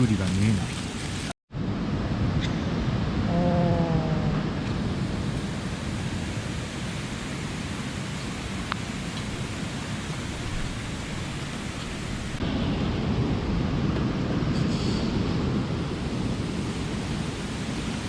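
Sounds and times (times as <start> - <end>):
mountain stream rushing: 0.0 - 3.3, 4.3 - 18.0.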